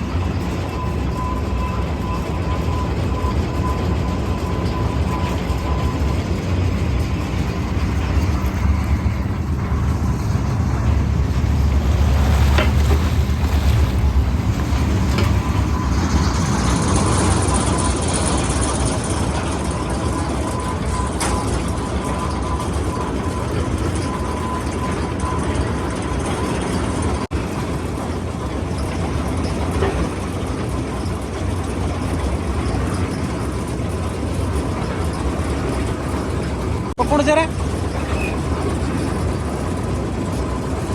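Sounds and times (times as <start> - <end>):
drilling rig engine running loudly: 0.0 - 40.9.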